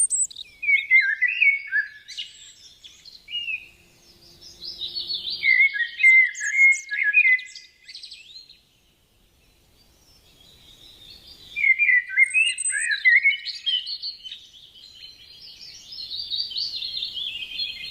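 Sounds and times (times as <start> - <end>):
songbird chirping: 0.0 - 17.9.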